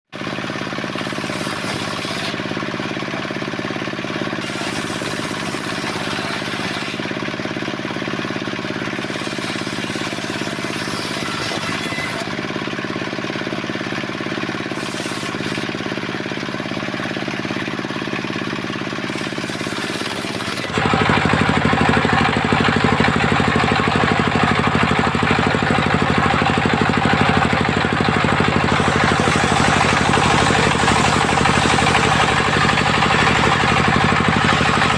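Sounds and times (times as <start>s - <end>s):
sawmill engine running: 0.2s - 34.9s.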